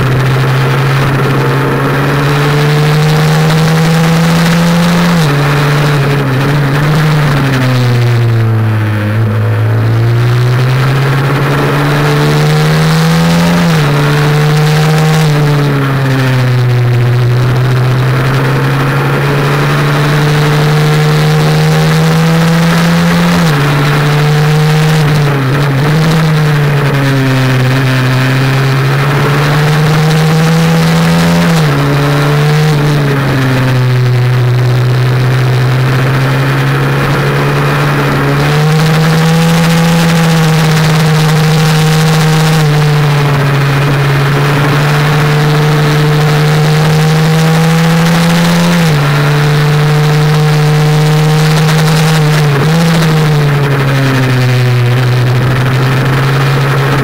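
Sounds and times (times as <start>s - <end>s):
motorcycle engine running hard: 0.0s - 57.0s.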